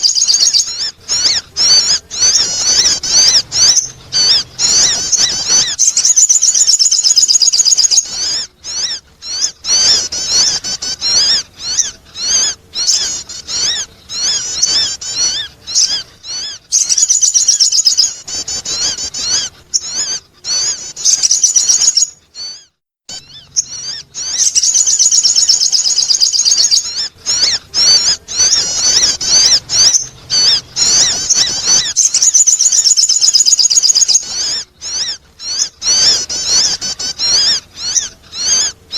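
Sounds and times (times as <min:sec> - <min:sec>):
bird lure chattering chirps: 0:00.0 - 0:38.7.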